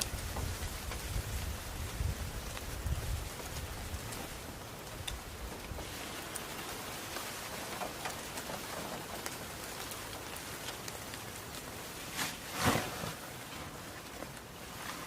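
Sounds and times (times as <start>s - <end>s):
raindrops ticking: 0.0s - 12.2s
steady rain falling: 0.0s - 15.0s.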